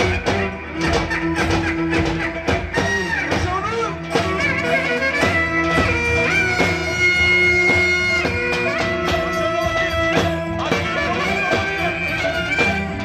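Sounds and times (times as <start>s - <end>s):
clarinet bending notes: 0.0s - 13.0s
drum beats: 0.0s - 13.0s.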